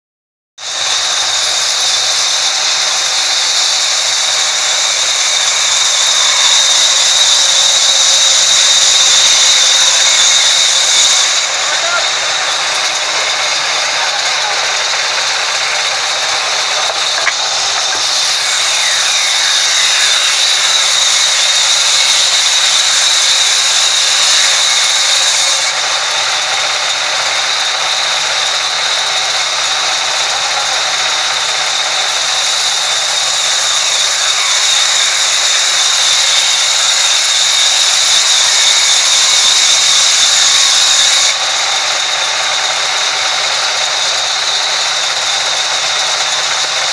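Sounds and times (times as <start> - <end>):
band saw cutting log: 0.6 - 46.9.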